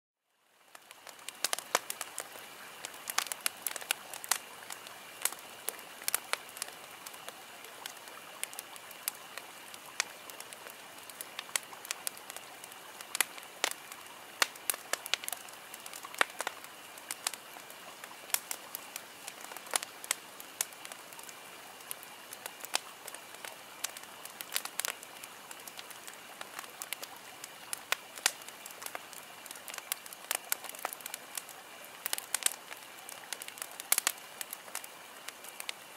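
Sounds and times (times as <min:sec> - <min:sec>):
running water hiss: 0:00.4 - 0:35.9
fire crackling and popping: 0:00.5 - 0:35.9.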